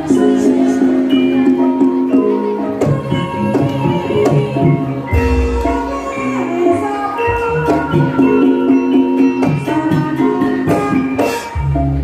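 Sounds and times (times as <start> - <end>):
gamelan ensemble playing: 0.0 - 12.0.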